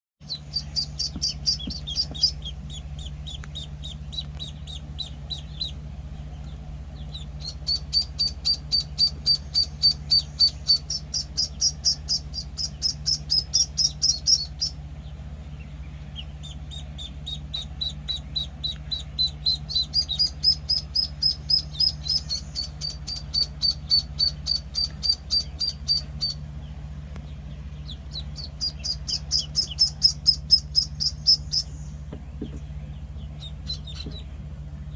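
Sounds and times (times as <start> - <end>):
ducklings peeping: 0.2 - 34.9.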